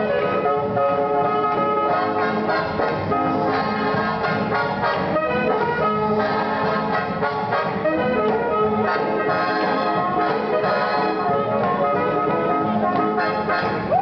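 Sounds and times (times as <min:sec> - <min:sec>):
big band swing music: 0:00.0 - 0:14.0
brass section melody: 0:00.0 - 0:14.0.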